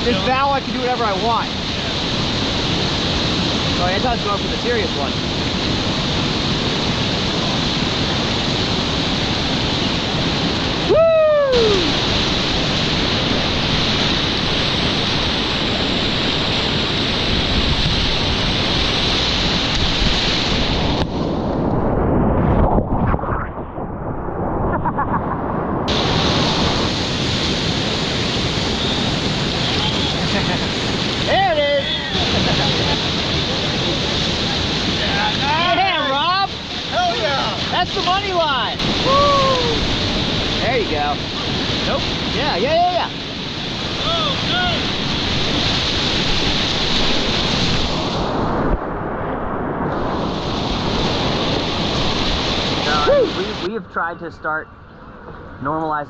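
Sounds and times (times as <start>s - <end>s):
rushing whitewater: 0.0s - 21.5s, 25.9s - 48.8s, 49.9s - 54.6s
wind buffeting microphone: 0.0s - 55.6s.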